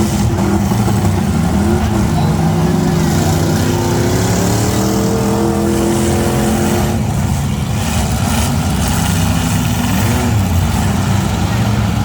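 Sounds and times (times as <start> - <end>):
car engines rumbling: 0.0 - 12.0
engine revving: 0.0 - 12.0.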